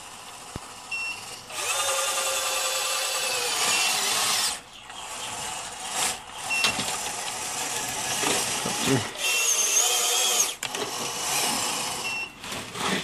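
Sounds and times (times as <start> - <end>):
toy bulldozer motors whining: 0.0 - 13.0.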